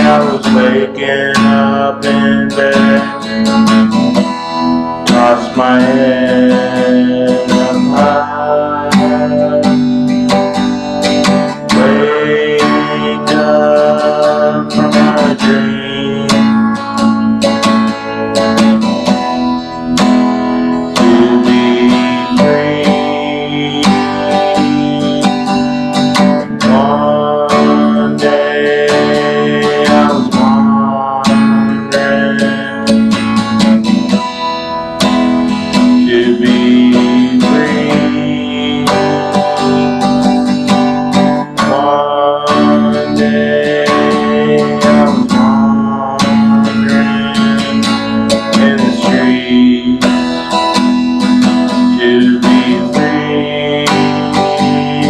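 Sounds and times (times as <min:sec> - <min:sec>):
man singing: 0:00.0 - 0:34.3, 0:35.0 - 0:55.0
acoustic guitar strumming: 0:00.0 - 0:55.0.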